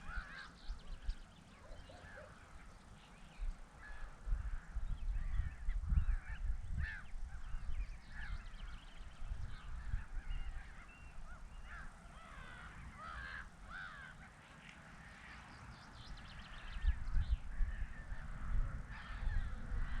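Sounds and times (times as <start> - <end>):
birds honking and chattering: 0.0 - 20.0.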